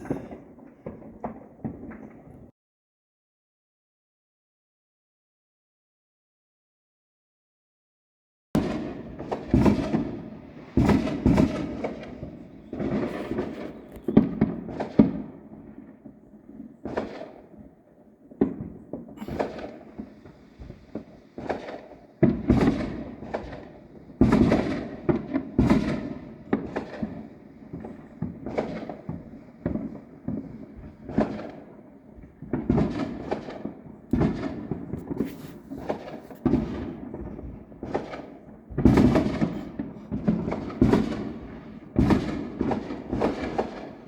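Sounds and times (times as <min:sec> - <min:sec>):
fireworks booming: 0:00.0 - 0:02.5, 0:08.6 - 0:44.0.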